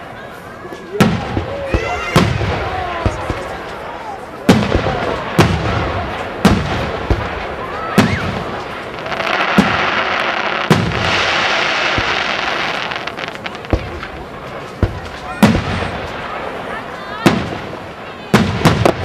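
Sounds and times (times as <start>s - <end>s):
firework crackle: 0.0s - 19.0s
firework shells booming: 0.9s - 19.0s.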